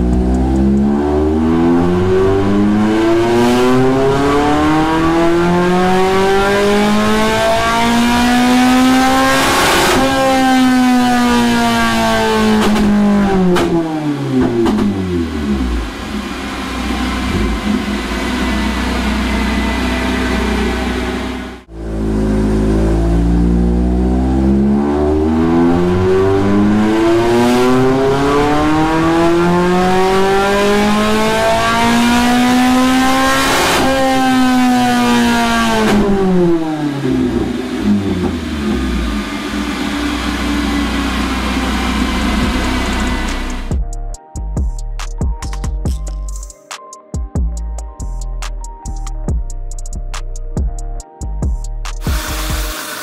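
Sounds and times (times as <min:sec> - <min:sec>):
engine revving without muffler: 0:00.0 - 0:43.7.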